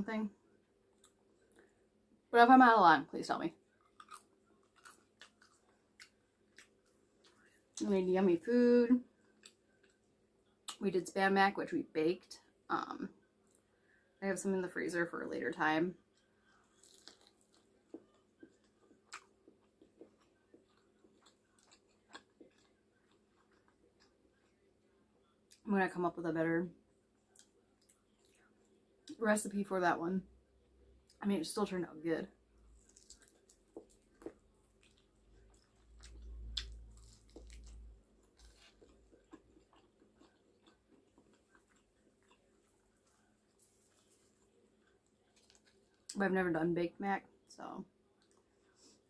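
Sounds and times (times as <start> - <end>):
faint chewing with soft smacks: 0.4 - 2.0, 3.4 - 8.2, 8.9 - 10.9, 12.2 - 14.2, 15.6 - 25.7, 26.6 - 29.2, 30.6 - 46.3, 47.2 - 49.0.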